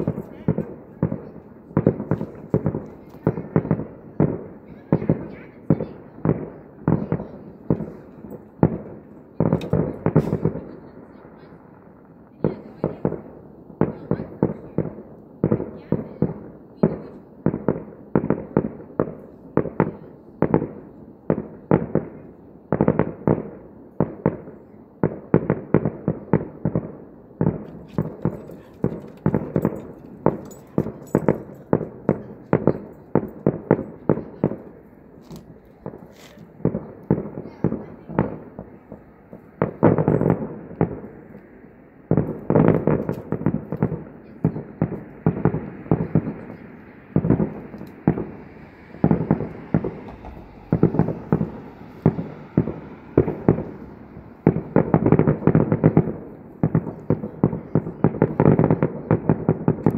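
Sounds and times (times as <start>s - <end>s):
distant fireworks bangs: 0.0s - 59.9s.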